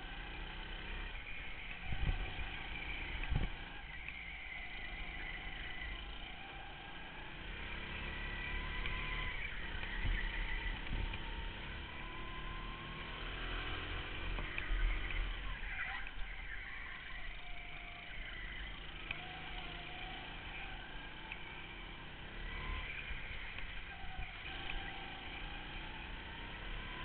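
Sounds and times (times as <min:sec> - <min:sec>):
go-kart engine running: 0:00.0 - 0:27.0.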